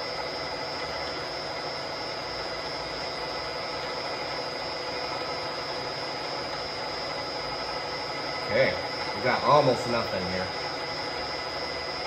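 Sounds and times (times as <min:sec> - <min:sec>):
high-pitched whine: 0:00.0 - 0:12.0
milling machine humming: 0:00.0 - 0:12.0.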